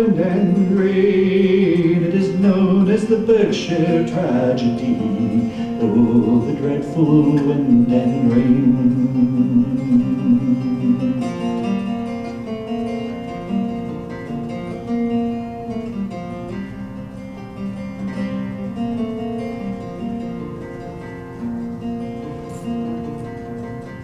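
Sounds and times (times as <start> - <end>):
acoustic guitar plucked solo: 0.0 - 24.0.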